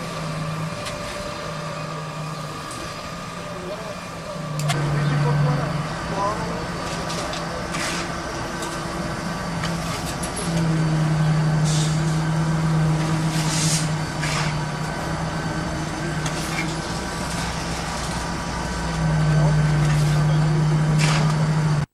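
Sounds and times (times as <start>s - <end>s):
engine droning: 0.0s - 21.9s.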